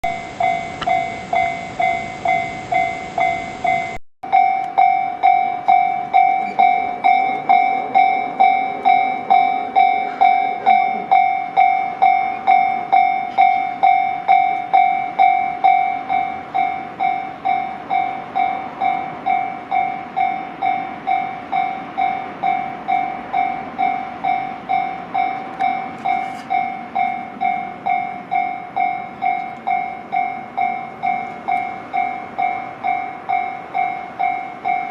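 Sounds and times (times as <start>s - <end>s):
level crossing bell clanging: 0.0s - 34.9s.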